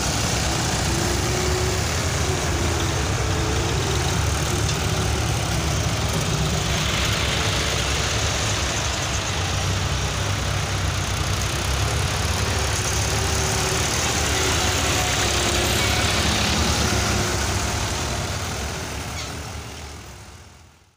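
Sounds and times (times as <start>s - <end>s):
diesel tractor engines running: 0.0s - 20.9s.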